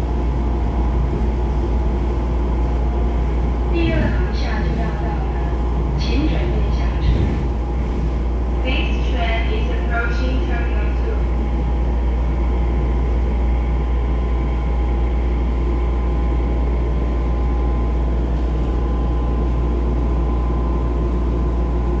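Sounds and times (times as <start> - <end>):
constant hum: 0.0 - 22.0
train rumbling: 0.0 - 22.0.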